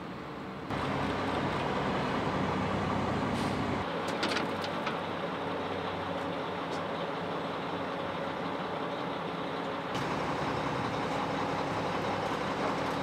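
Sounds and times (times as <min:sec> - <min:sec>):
heavy truck engine running: 0:00.6 - 0:13.0.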